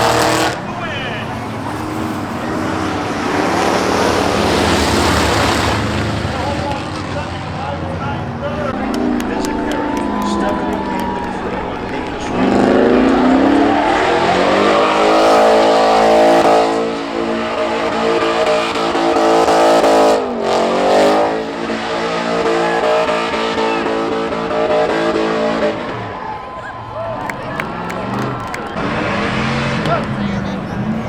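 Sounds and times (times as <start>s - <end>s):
truck engine revving hard: 0.0s - 26.4s, 27.0s - 31.0s.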